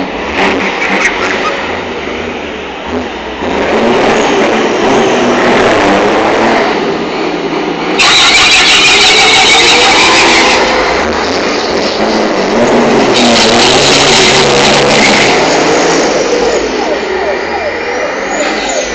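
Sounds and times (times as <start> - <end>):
truck diesel engines revving: 0.0 - 18.9.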